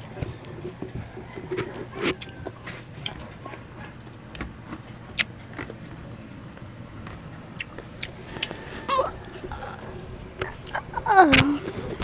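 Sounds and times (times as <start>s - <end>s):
children chewing crisp fruit: 0.0s - 12.0s.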